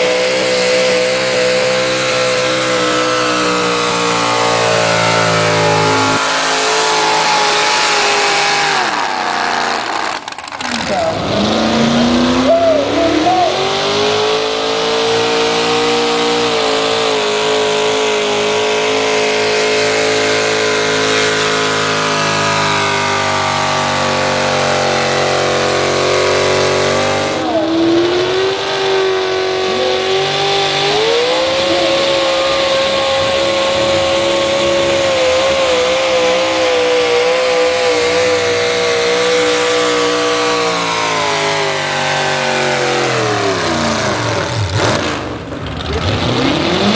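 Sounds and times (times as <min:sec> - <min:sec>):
truck engine at full throttle: 0:00.0 - 0:46.9.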